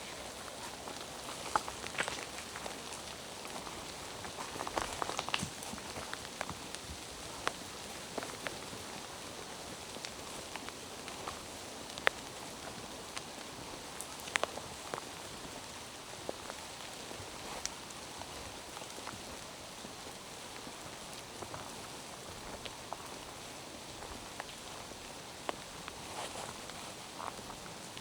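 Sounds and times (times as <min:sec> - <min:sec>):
rain falling through forest: 0:00.0 - 0:28.0.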